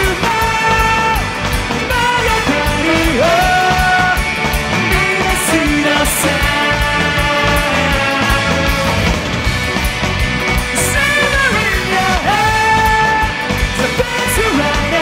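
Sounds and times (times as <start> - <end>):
man singing: 0.0 - 9.4, 10.7 - 15.0
ska band with brass: 0.0 - 15.0.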